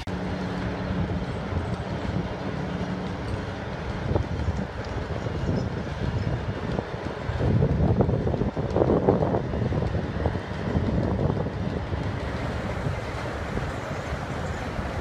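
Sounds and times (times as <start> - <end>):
excavator running hum: 0.0 - 15.0.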